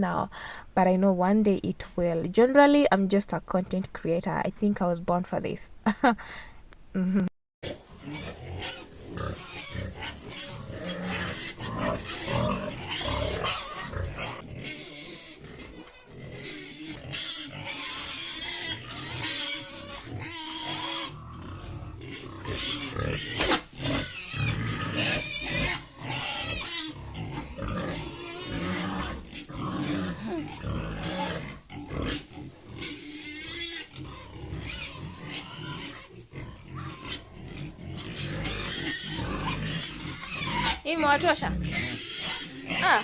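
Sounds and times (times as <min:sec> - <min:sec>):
pigs grunting: 0:07.6 - 0:43.0
pigs squealing: 0:07.6 - 0:43.0.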